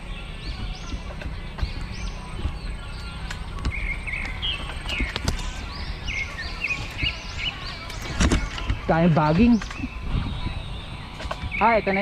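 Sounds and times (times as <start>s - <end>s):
birds chirping: 0.0s - 12.0s
steady low rumble: 0.0s - 12.0s.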